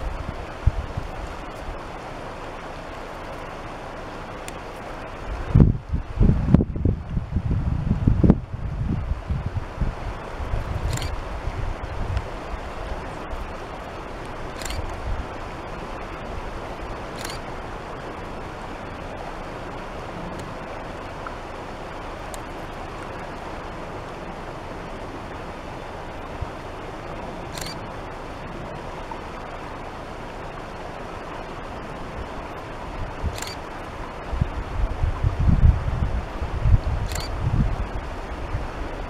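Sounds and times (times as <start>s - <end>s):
river flowing over stones: 0.0s - 39.0s.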